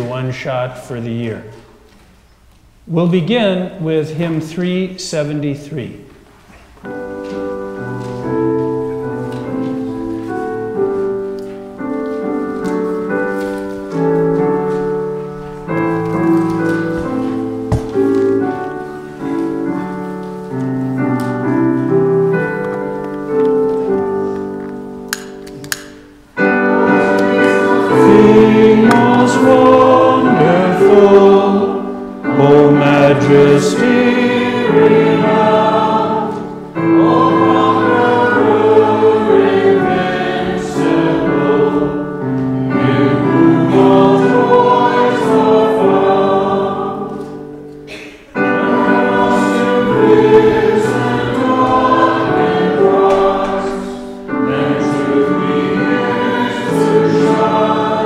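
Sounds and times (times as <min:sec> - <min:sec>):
choir singing a hymn: 0:06.9 - 0:25.0, 0:25.7 - 0:58.0.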